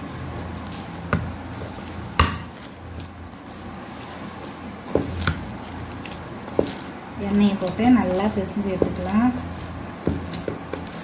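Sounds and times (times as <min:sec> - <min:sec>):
dough thumping: 0:00.7 - 0:03.4, 0:04.8 - 0:11.0.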